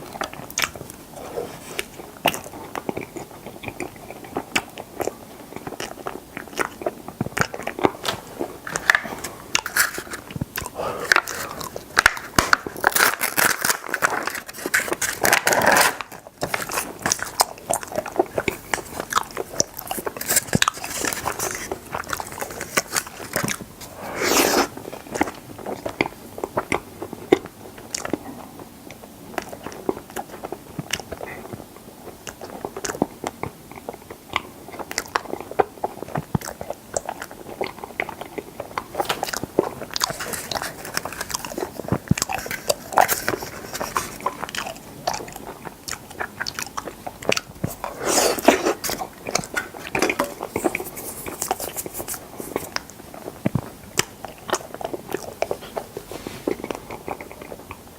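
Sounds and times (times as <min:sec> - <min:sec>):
biting and chewing: 0:00.0 - 0:57.9.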